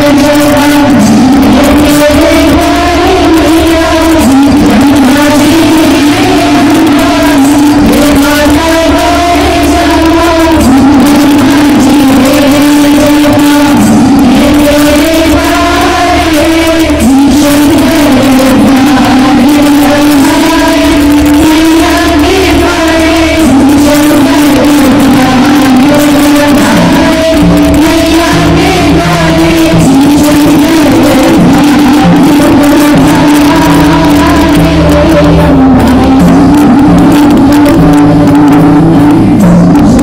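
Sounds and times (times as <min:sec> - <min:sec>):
person singing long wavering notes: 0:00.0 - 0:40.0
steady bass music: 0:00.0 - 0:40.0.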